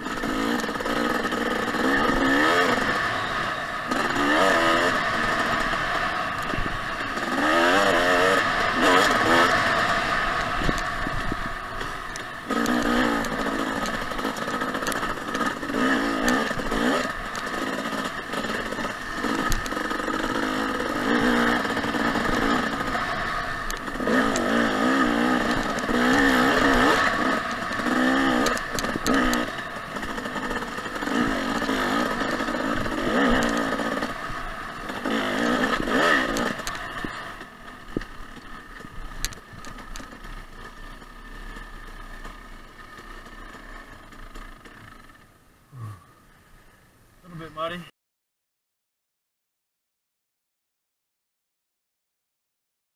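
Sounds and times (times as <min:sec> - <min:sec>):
dirt bike engine revving: 0:00.0 - 0:46.3.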